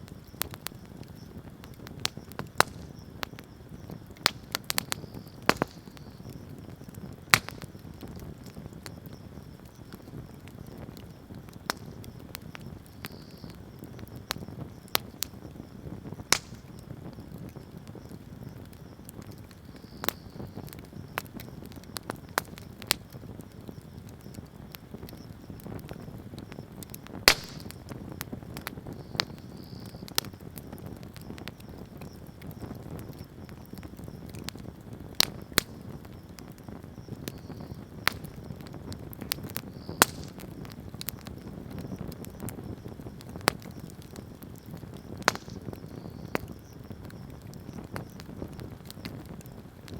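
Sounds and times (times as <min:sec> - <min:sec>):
bonfire crackling and popping: 0:00.0 - 0:49.9
flame rustle: 0:00.0 - 0:49.9.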